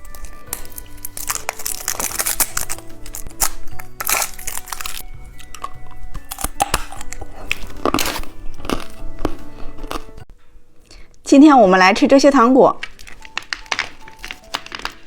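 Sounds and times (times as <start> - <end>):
plastic packaging crinkling: 0.0 - 10.1, 12.8 - 15.0
background music: 0.0 - 10.3, 12.6 - 15.0.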